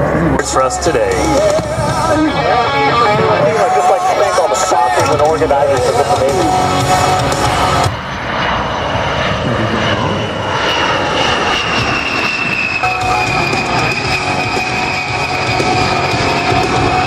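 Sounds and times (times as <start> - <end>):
jet engines flying past: 0.0 - 17.0.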